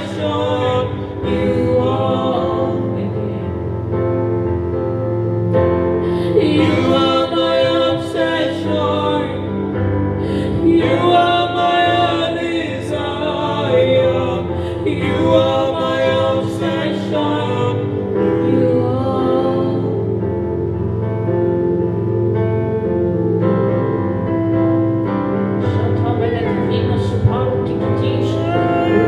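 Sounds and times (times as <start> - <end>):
low sustained backing: 0.0 - 29.0
person singing worship music: 0.0 - 29.0.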